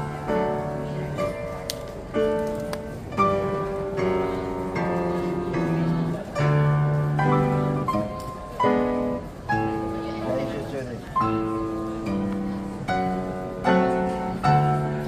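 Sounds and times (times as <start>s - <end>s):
grand piano chords and melody: 0.0s - 15.0s.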